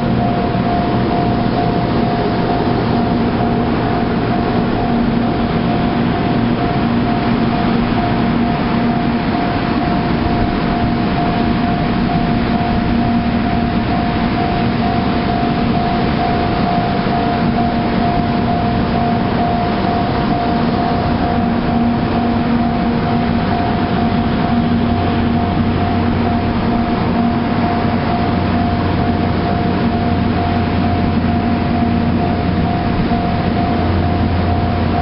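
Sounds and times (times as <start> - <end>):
level crossing alarm ringing: 0.0 - 35.0
train rumble: 0.0 - 35.0.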